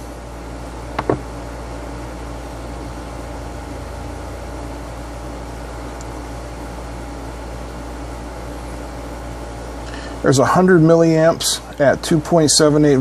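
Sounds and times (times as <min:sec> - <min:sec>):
room noise hum and hiss: 0:00.0 - 0:13.0.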